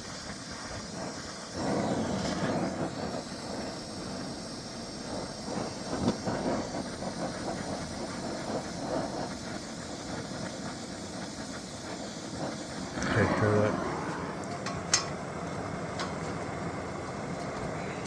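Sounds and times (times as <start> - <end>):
gas torch flame roaring: 0.0 - 18.0.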